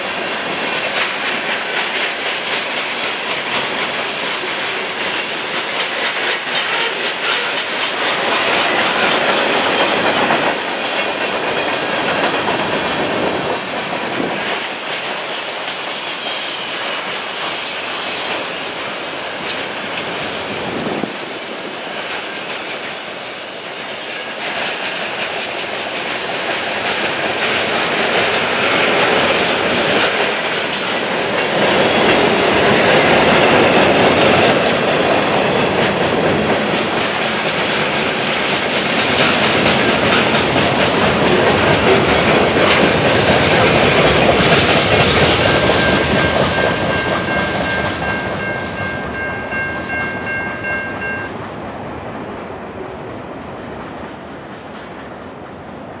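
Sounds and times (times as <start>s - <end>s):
train wheels clicking over rail joints: 0.0s - 51.6s.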